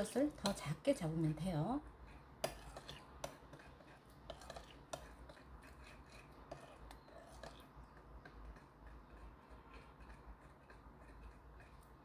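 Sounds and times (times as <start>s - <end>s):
spoon scraping ceramic bowl: 0.0s - 12.0s.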